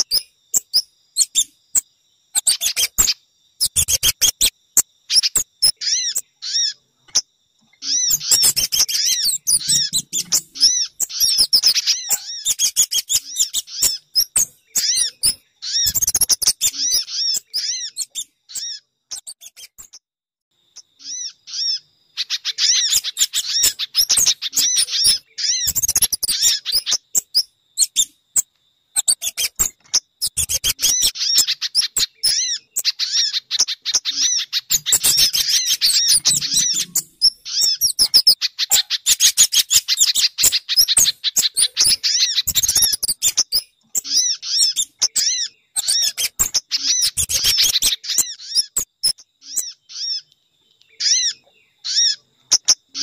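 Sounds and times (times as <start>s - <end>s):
birds chirping rapidly: 0.0s - 20.0s, 20.7s - 53.0s.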